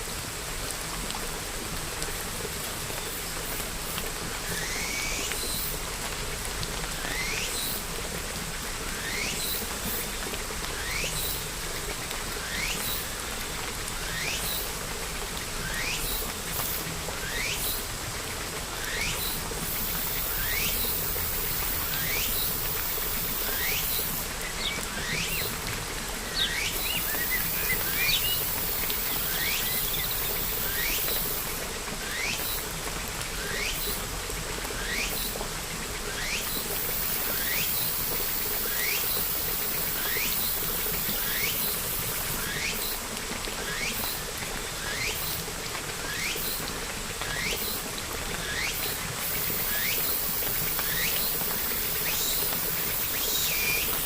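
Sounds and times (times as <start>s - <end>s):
steady hiss of rain: 0.0s - 54.0s.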